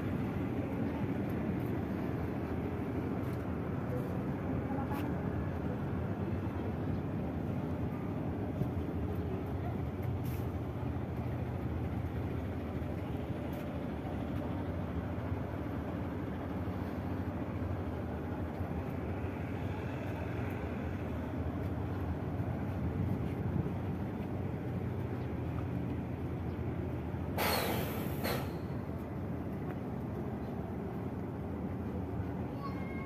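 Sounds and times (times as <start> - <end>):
diesel truck engines idling: 0.0 - 33.0.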